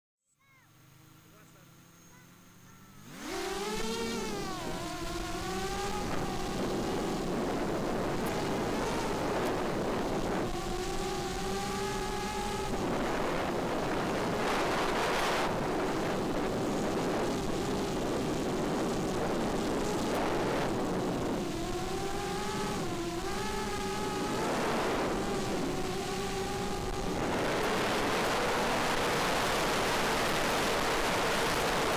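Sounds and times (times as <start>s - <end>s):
quadcopter motors whining: 0.3s - 31.9s
wind rushing over microphone: 3.0s - 31.9s.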